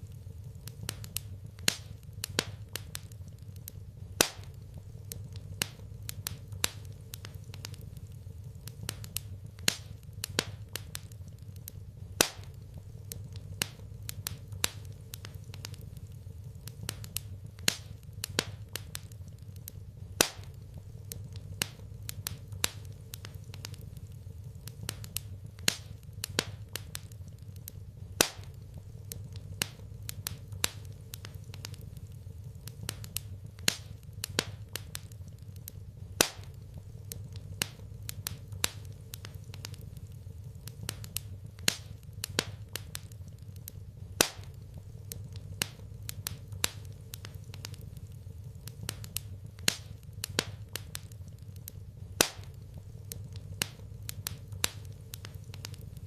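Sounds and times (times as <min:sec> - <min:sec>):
low steady rumble: 0:00.0 - 0:56.0
wood fire crackling: 0:00.0 - 0:56.0.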